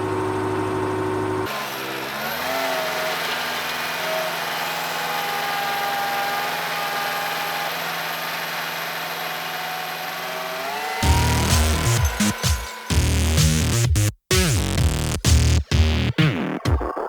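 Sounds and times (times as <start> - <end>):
skid steer engine running: 0.0 - 13.8.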